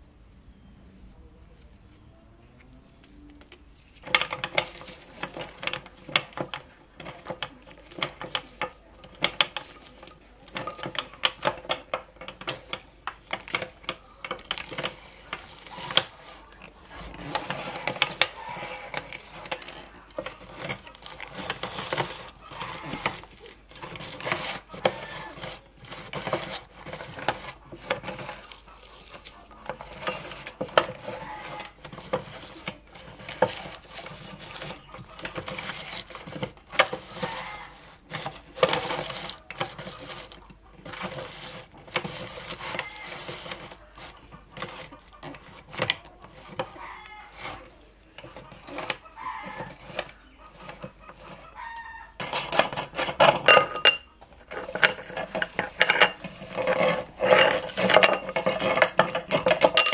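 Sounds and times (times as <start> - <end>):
firecrackers rattling on a plate: 3.6 - 59.9.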